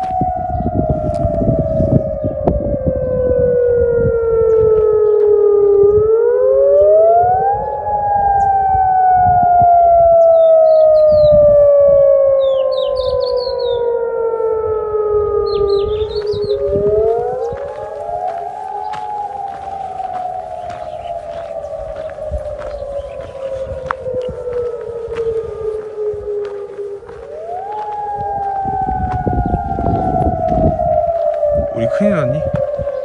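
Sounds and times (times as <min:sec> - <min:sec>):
air-raid siren wailing: 0:00.0 - 0:33.0.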